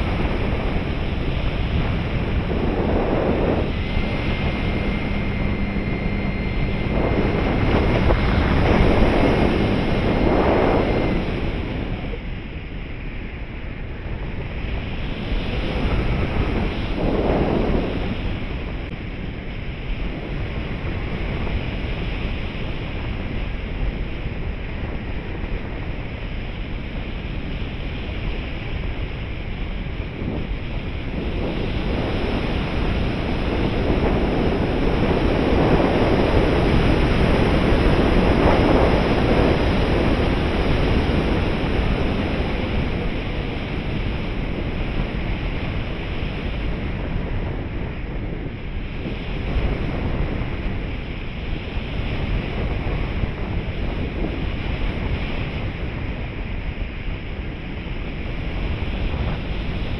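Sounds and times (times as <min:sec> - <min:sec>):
wind rushing over camera: 0:00.0 - 0:59.9.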